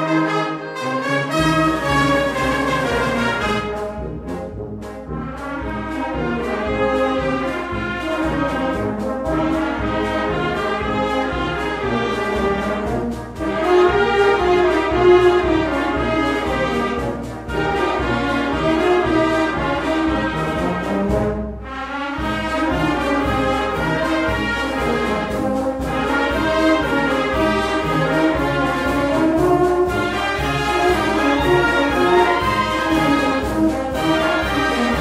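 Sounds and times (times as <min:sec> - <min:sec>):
brass band playing a hymn march: 0:00.0 - 0:35.0.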